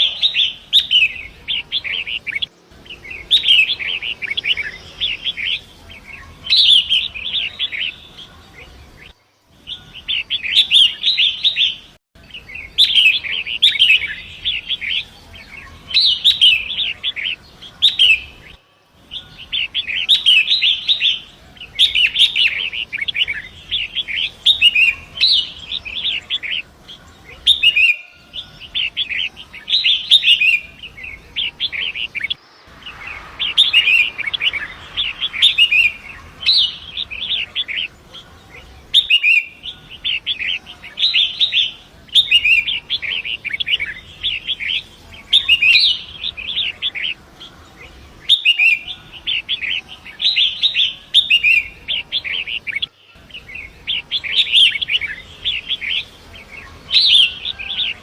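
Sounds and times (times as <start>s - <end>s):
bird singing chattering song: 0.0s - 58.0s.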